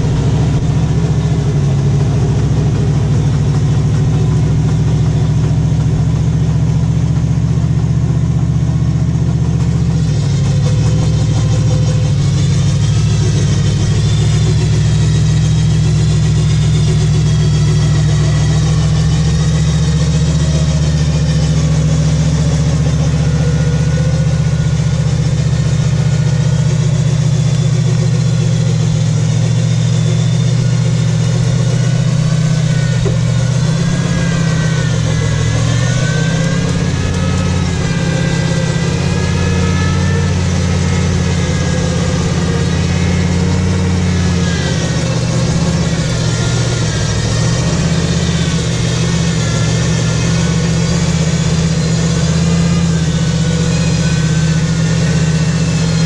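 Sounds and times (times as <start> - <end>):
engine running at low revs: 0.0 - 56.0
faint wavering whine: 0.0 - 56.0.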